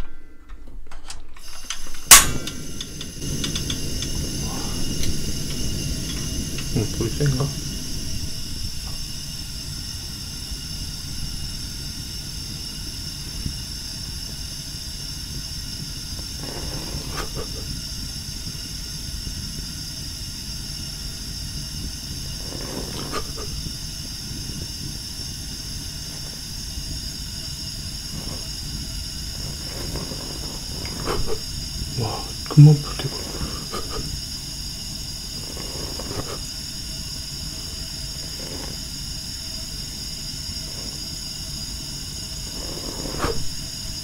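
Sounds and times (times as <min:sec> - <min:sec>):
gas stove burner hissing: 0:01.0 - 0:44.0
faint crackles: 0:01.4 - 0:18.6, 0:21.7 - 0:44.0.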